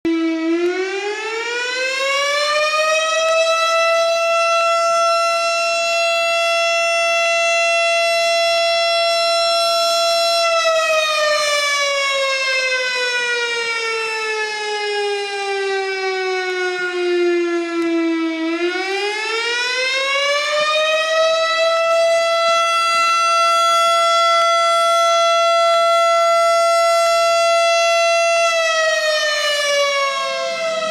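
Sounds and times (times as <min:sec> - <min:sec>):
fire siren wailing: 0:00.0 - 0:30.9.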